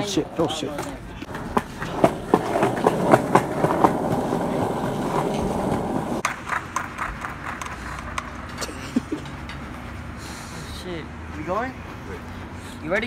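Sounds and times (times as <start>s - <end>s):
skateboard wheels rolling on concrete: 0.2s - 13.0s.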